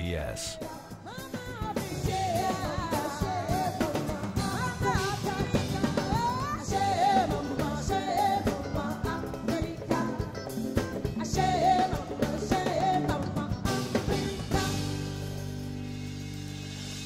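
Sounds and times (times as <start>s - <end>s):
drum kit: 0.0s - 17.0s
woman singing into a microphone: 0.6s - 15.3s
guitars: 0.6s - 17.0s.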